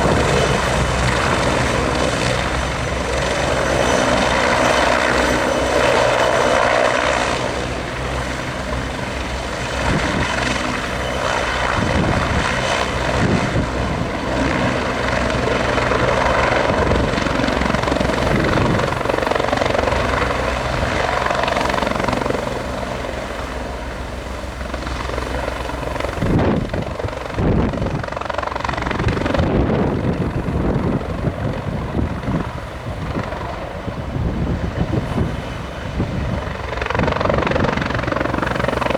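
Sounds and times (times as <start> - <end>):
helicopter engine and rotor: 0.0 - 38.9
wind buffeting microphone: 0.0 - 38.9.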